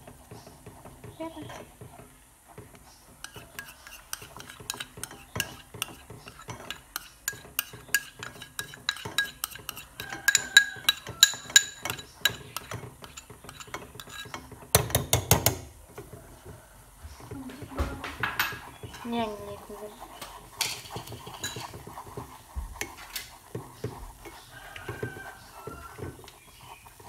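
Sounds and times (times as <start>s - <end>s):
spoon knocking against pan: 2.6s - 16.6s, 17.2s - 19.0s, 20.2s - 26.4s.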